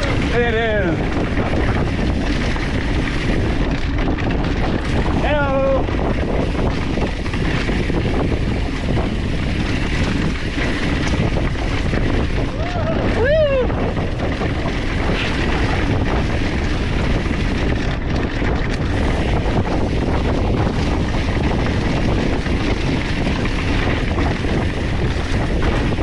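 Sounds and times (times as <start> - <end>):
bike tyres rolling on dirt: 0.0 - 26.0
wind on microphone: 0.0 - 26.0.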